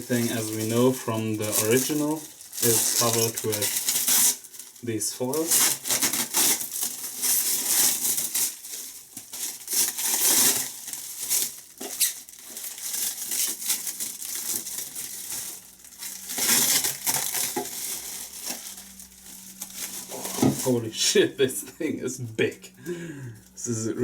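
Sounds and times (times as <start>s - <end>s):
plastic foil crinkling: 0.0s - 21.2s.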